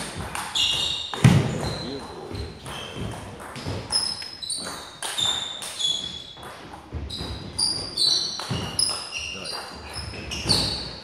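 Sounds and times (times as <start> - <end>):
shoes squeaking on wooden floor: 0.0 - 11.0.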